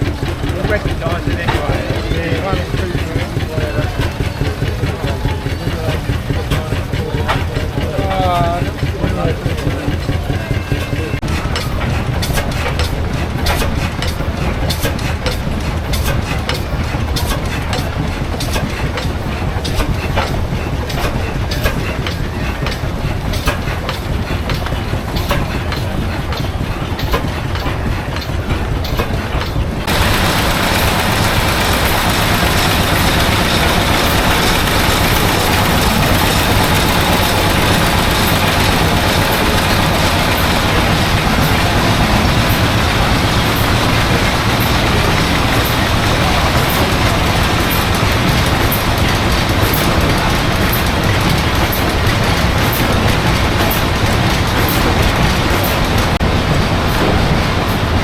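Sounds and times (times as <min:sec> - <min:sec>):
fast clicking: 0:00.0 - 0:56.2
machinery low rumble: 0:00.0 - 0:58.0
steady rushing noise: 0:04.9 - 0:58.0.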